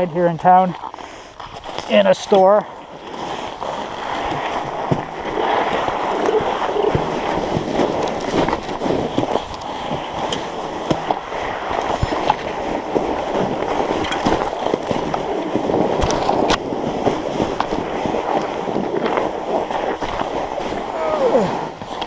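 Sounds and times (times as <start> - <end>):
bike tyres crunching over snow: 0.0 - 22.0.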